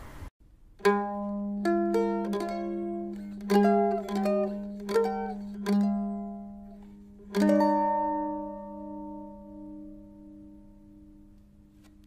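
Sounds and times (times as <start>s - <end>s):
plucked string notes: 0.8s - 12.0s.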